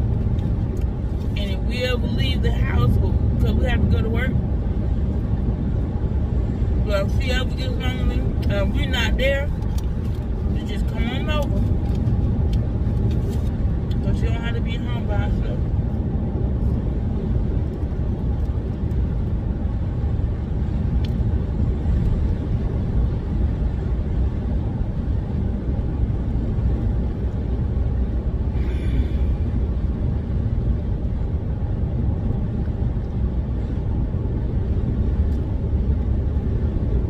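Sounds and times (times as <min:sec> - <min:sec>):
car cabin rumble: 0:00.0 - 0:37.0.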